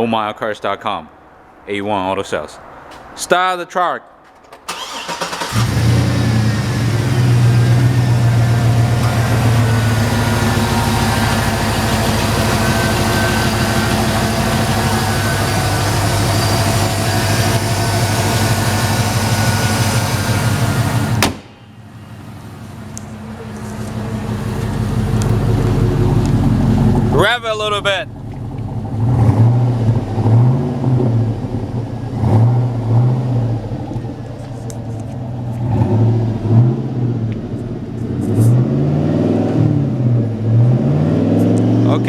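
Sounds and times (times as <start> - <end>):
car engine starting and idling: 4.2 - 42.0.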